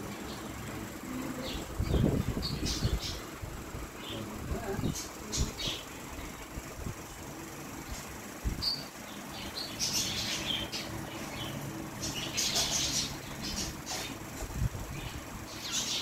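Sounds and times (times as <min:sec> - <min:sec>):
parrots chirping and chattering: 0:00.0 - 0:16.0.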